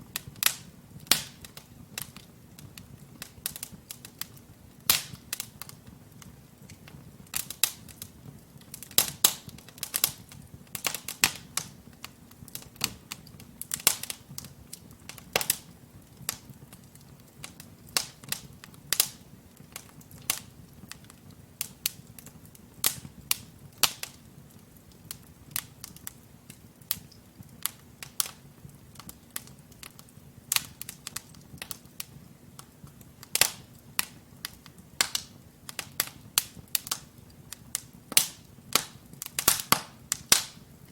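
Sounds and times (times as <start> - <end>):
low rumble of flames: 0.0 - 40.9
wood fire crackling: 0.0 - 40.9
sharp pops and snaps: 0.2 - 40.6.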